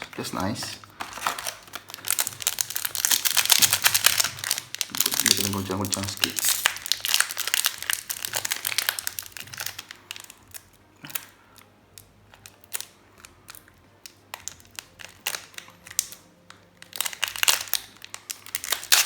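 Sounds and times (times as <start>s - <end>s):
foil wrapper crinkling: 0.0s - 19.0s.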